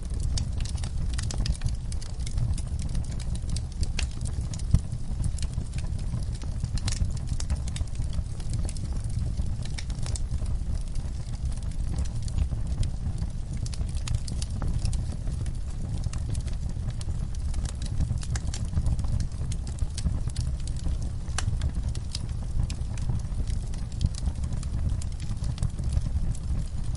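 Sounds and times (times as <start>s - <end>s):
low rumble of flames: 0.0s - 26.9s
wood fire crackling and popping: 0.0s - 26.9s.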